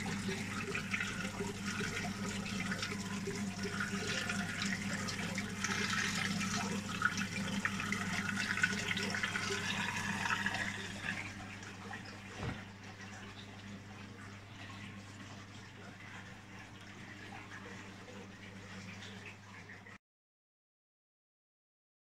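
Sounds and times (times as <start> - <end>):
water bubbling and splashing: 0.0 - 19.9
low electrical hum: 0.0 - 20.0.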